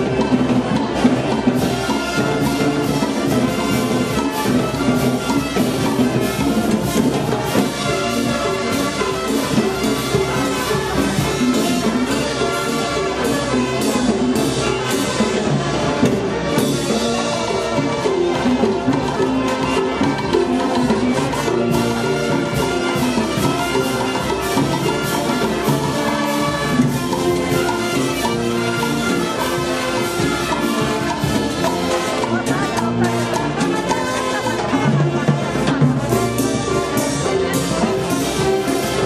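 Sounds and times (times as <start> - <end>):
brass band playing: 0.0 - 39.0
percussion beat: 0.0 - 39.0
trumpets and trombones: 0.0 - 39.0.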